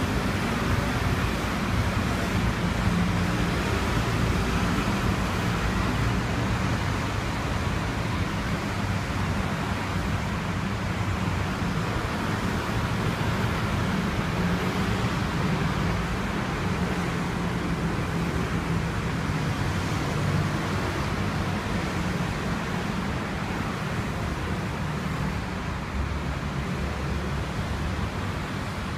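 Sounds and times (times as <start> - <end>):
low hum of passing traffic: 0.0 - 28.9.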